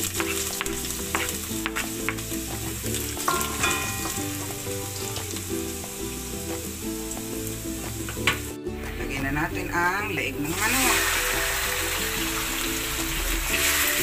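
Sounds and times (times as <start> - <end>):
garlic sizzling in oil: 0.0 - 8.6, 10.4 - 14.0.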